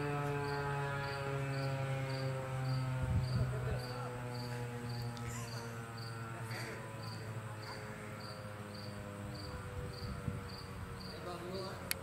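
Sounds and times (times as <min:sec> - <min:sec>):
low hum: 0:00.0 - 0:11.1
insect chirping: 0:00.4 - 0:06.3, 0:07.0 - 0:11.2.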